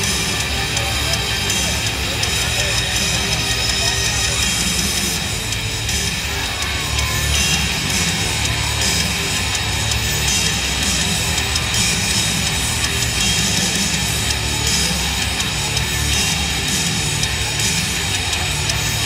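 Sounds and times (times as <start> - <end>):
heavy rock music with electric guitars: 0.0 - 19.0.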